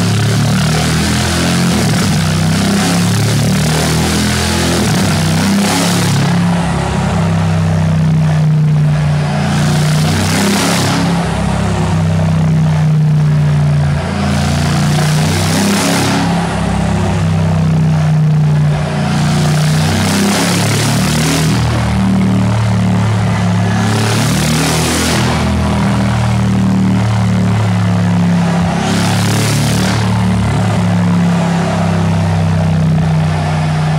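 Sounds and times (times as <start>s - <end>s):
car engine droning through exhaust: 0.0s - 33.9s
rushing exhaust surges: 0.0s - 33.9s.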